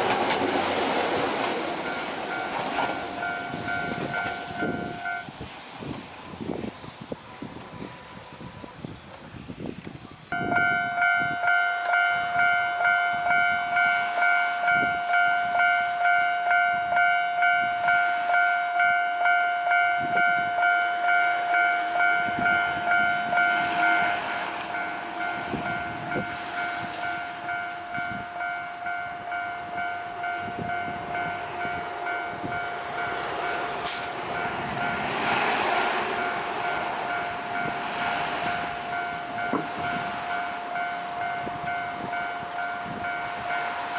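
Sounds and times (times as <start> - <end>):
electric train rumble and wheel knocks: 0.0 - 43.9
level crossing alarm ringing: 1.8 - 5.3, 10.4 - 35.2, 36.1 - 43.9.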